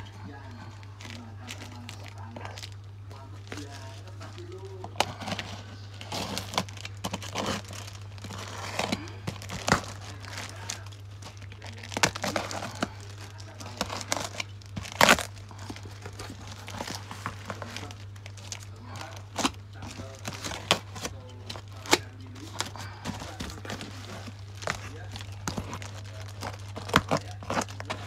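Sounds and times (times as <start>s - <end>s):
cardboard scraping: 0.0s - 28.0s
packing tape and plastic tearing: 0.0s - 28.0s.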